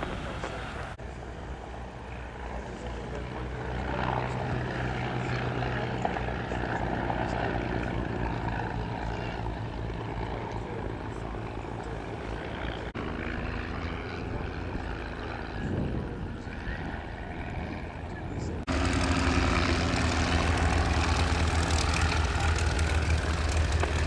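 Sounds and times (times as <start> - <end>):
propeller planes droning: 0.0 - 24.0.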